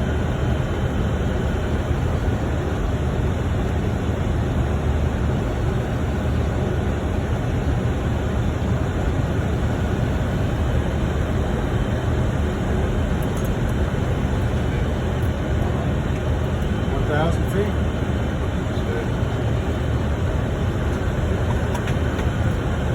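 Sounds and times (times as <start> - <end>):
aircraft engine rumble: 0.0 - 22.9
airflow rush on flight deck: 0.0 - 22.9.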